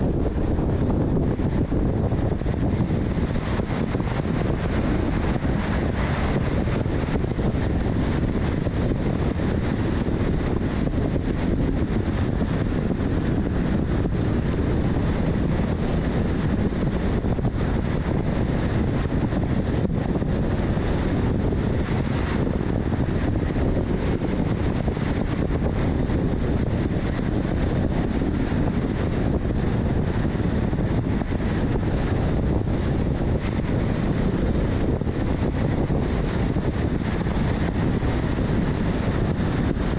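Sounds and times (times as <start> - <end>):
car road noise: 0.0 - 39.9
wind on microphone: 0.0 - 39.9.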